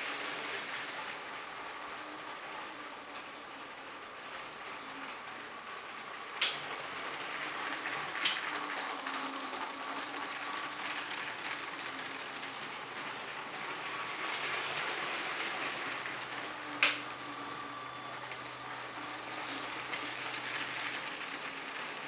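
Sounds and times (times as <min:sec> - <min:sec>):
toy train motor whirring: 0:04.3 - 0:22.0.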